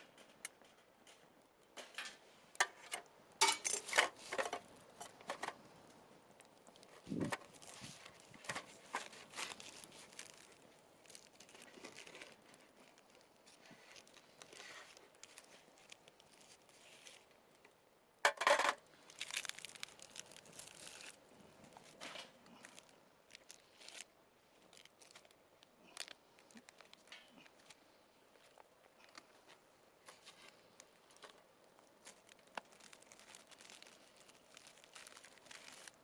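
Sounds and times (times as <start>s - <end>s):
crinkling and tearing: 3.7s - 17.8s, 18.5s - 36.0s.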